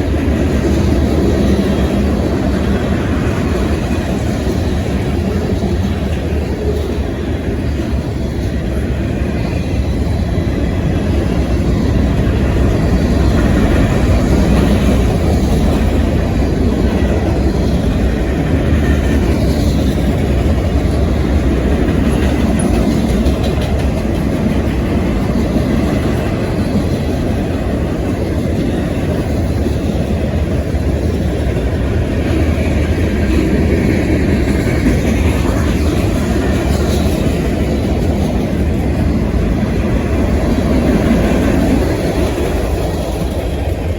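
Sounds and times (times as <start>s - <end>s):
train rumbling along rails: 0.0s - 43.9s.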